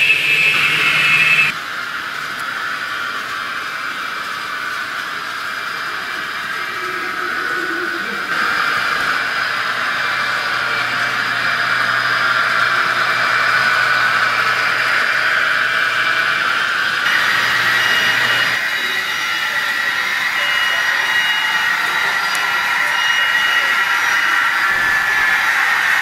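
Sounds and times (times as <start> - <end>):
model train whirring rattle: 0.0 - 26.0.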